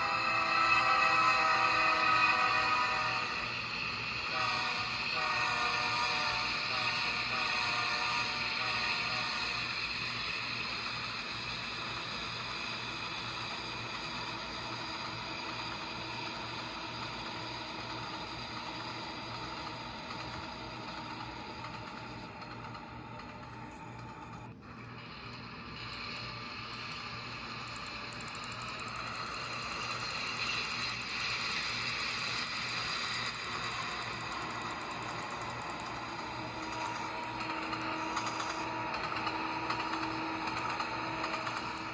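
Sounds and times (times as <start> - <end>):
train rumble and hiss: 0.0 - 41.9.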